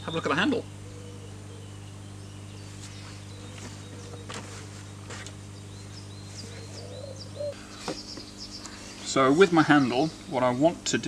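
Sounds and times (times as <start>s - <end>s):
small birds chirping: 0.0s - 10.8s
steady low hum: 0.0s - 11.0s.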